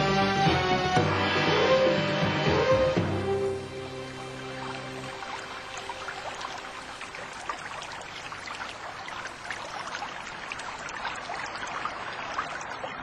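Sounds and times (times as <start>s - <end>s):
rushing splashing water: 2.4s - 13.0s.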